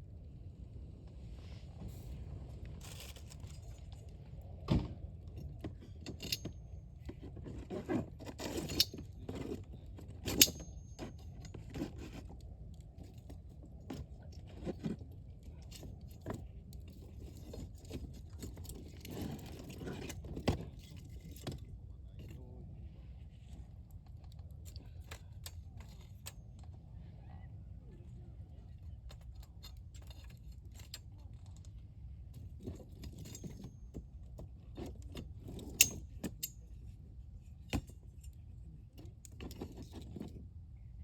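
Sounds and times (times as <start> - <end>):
low steady rumble: 0.0 - 41.0.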